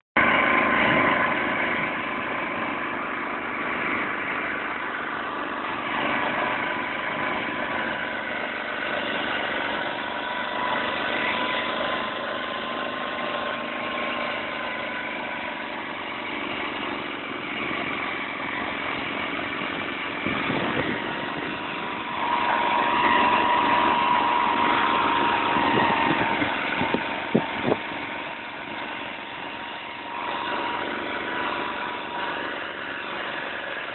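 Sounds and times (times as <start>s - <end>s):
tiller engine running: 0.2s - 33.9s.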